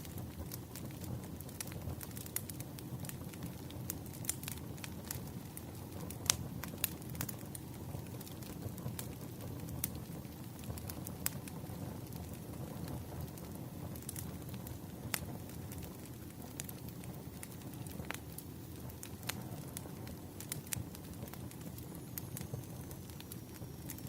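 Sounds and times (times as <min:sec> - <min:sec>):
firewood crackling: 0:00.0 - 0:24.0
sharp pops of fire: 0:00.0 - 0:24.0.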